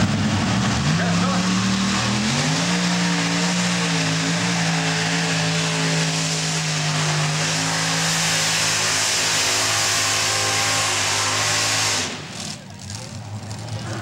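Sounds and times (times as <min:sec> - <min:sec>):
tractor engines revving hard: 0:00.0 - 0:14.0.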